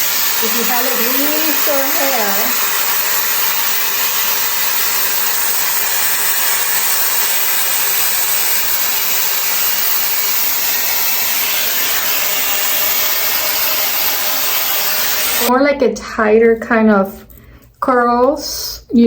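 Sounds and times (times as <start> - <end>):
air styler blowing air: 0.0 - 15.5.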